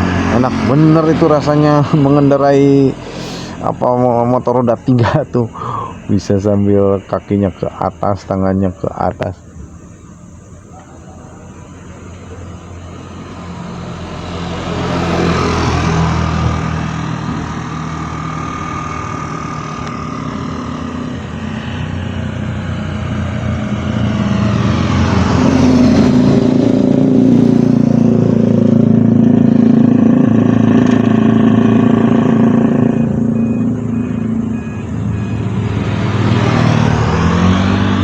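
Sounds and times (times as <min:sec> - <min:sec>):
loud engine low note: 0:00.0 - 0:08.2, 0:08.8 - 0:38.0
vehicles passing close by: 0:00.0 - 0:38.0.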